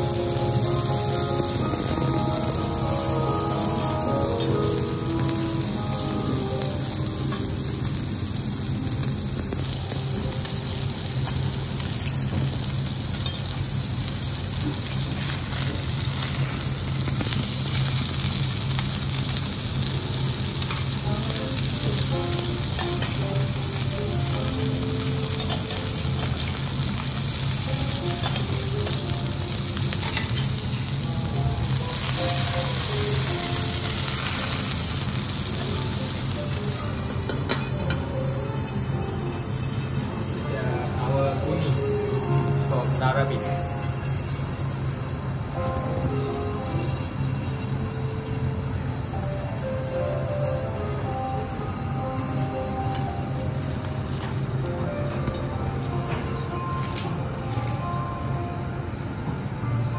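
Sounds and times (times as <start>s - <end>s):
fish frying on a griddle: 0.0s - 57.8s.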